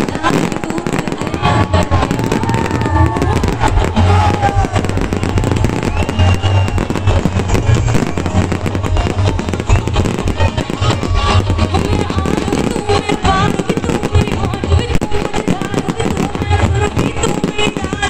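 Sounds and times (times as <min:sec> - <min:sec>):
loud music with bass: 0:00.0 - 0:17.0
fireworks bangs and crackles: 0:00.0 - 0:18.0.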